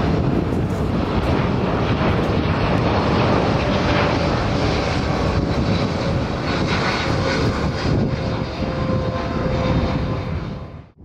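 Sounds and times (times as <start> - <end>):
jet airliner engines at high thrust: 0.0 - 11.0.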